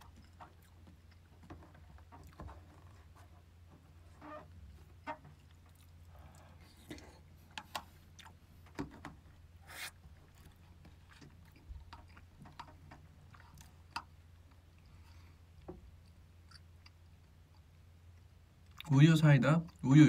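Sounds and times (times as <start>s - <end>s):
soft chewing: 0.0s - 18.9s
low steady hum: 0.0s - 20.0s.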